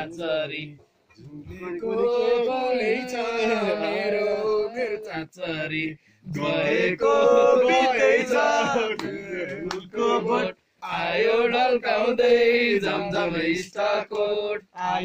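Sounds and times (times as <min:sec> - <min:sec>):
men singing unaccompanied: 0:00.0 - 0:15.0.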